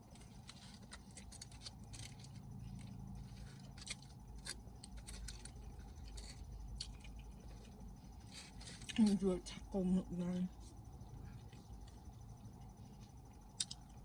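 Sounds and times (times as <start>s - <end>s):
faint chewing: 0.0s - 9.6s, 10.4s - 14.0s
low steady hum: 0.0s - 14.0s.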